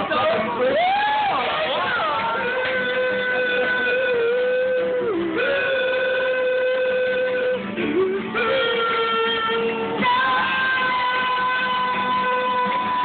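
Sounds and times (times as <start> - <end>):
acoustic guitar: 0.0 - 13.0
person singing long notes: 0.1 - 13.0.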